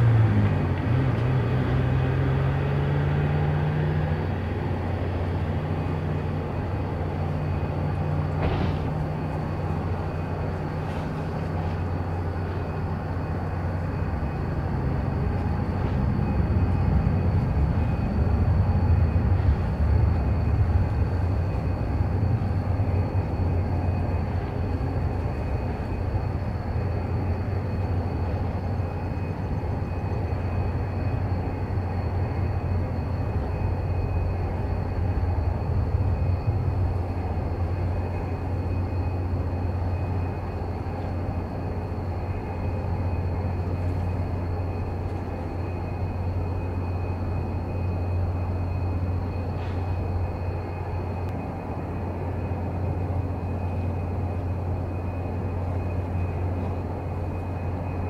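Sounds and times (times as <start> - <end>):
car engine low rumble: 0.0 - 58.0.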